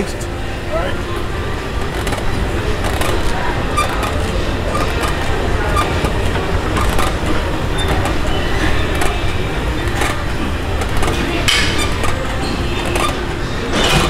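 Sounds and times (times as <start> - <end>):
low rumble of gym: 0.0 - 14.0
metallic clanks of weight machines: 1.8 - 14.0.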